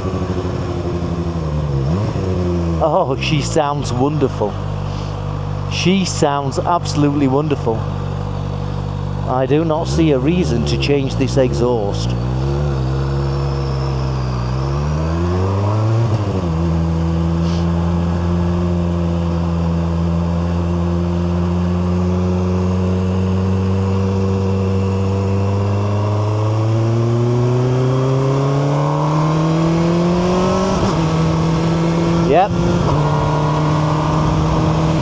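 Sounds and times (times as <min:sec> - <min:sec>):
motorcycle engine under way: 0:00.0 - 0:35.0.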